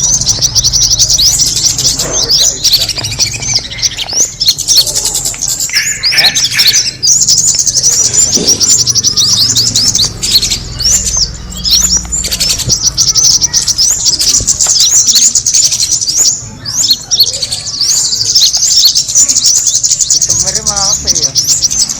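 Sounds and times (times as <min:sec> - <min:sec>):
bird lure call chirps: 0:00.0 - 0:21.9.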